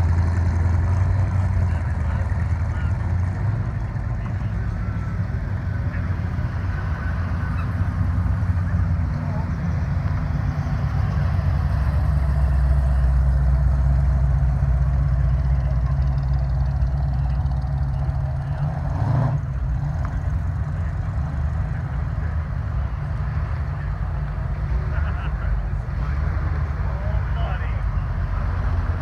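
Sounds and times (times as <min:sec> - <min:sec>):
deep car engine rumble: 0:00.0 - 0:29.0.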